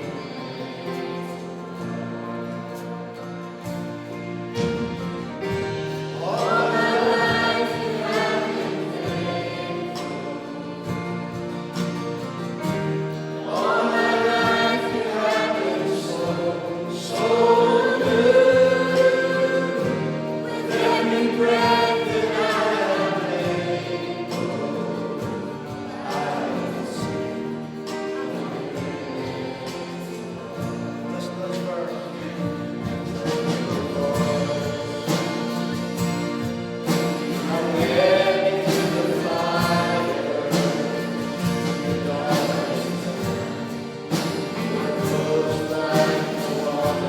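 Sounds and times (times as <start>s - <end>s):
congregation singing a hymn: 0.0s - 47.0s
instrumental accompaniment: 0.0s - 47.0s.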